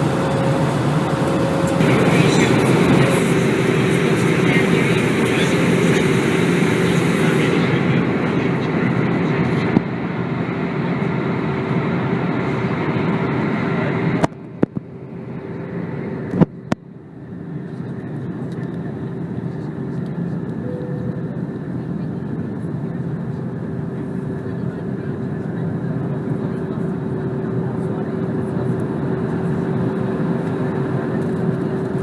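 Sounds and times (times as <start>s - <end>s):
aircraft cabin airflow and engines: 0.0s - 32.0s.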